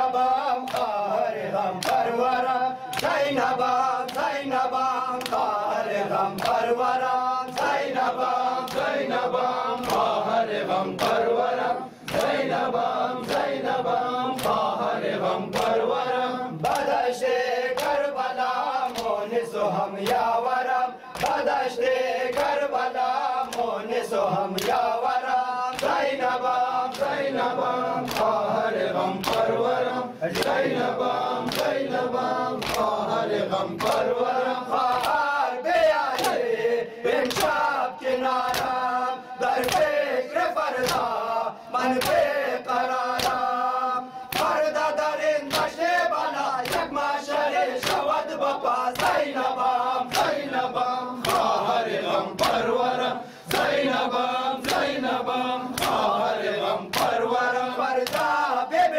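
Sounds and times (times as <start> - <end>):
men chanting in unison: 0.0 - 58.9
rhythmic chest-beating slaps: 0.0 - 58.9.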